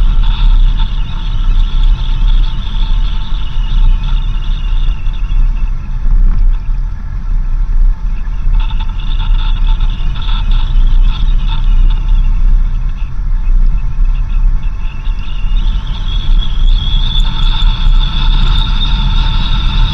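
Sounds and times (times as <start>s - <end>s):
steady high-pitched tones: 0.0s - 19.9s
vehicle engine and tyres rumbling: 0.0s - 19.9s.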